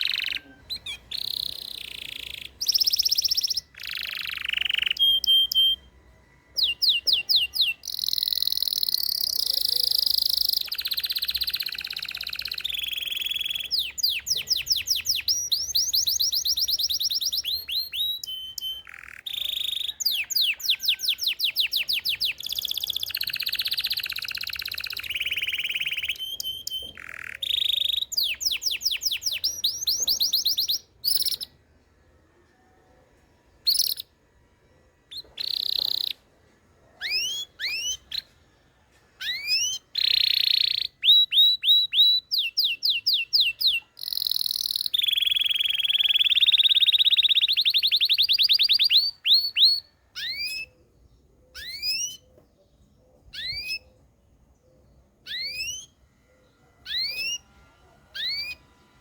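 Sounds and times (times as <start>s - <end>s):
canary singing trills: 0.0s - 31.9s, 33.6s - 34.2s, 34.9s - 38.6s, 39.2s - 59.0s.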